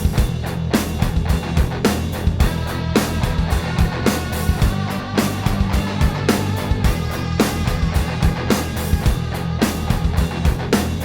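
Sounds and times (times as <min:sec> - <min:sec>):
instrumental rock music: 0:00.0 - 0:11.0.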